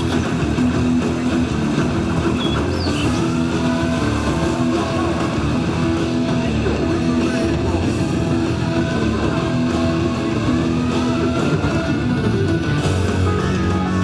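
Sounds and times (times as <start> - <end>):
rock music with guitar: 0.0 - 14.0.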